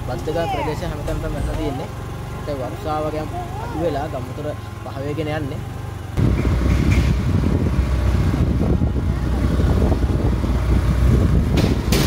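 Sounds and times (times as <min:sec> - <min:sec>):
motor vehicle low rumble: 0:00.0 - 0:12.0.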